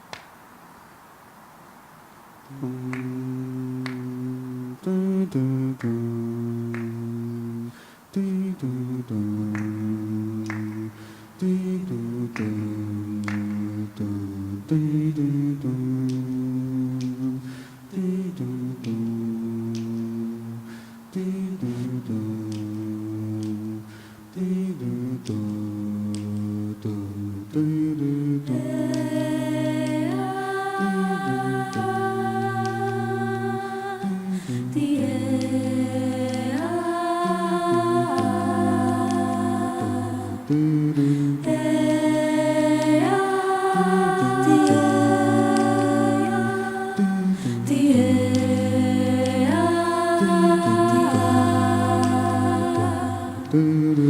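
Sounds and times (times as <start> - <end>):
finger snaps: 0.0 - 0.4, 2.4 - 54.0
solo voice holding long notes: 2.1 - 54.0
vocal group humming chords: 2.4 - 54.0.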